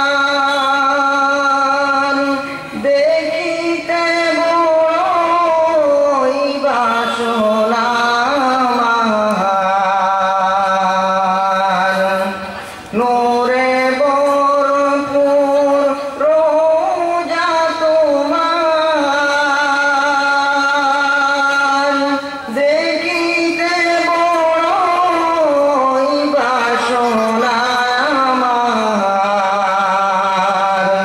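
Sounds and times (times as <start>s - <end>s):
man singing: 0.0s - 31.0s.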